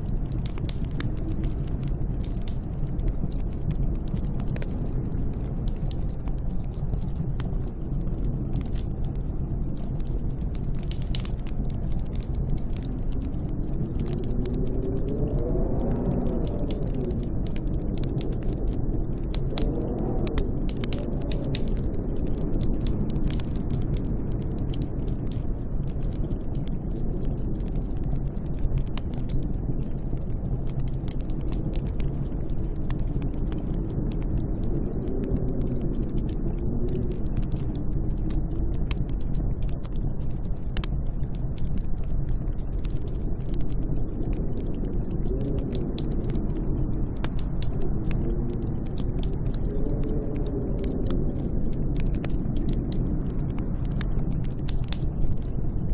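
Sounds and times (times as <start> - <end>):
faint crackling clicks: 0.0 - 55.9
howling wind: 0.0 - 55.9.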